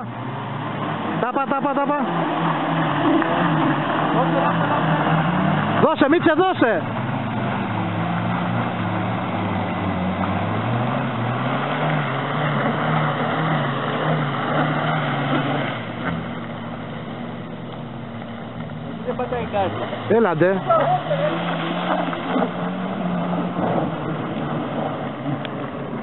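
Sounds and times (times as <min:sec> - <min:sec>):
off-road engines under load: 0:00.0 - 0:26.0.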